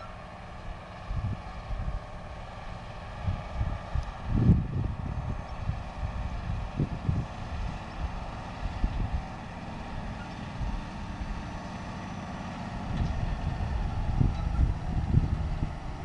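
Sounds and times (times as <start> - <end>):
tractor diesel engine running: 0.0 - 16.0
wind rumbling on microphone: 0.7 - 11.6, 12.6 - 16.0.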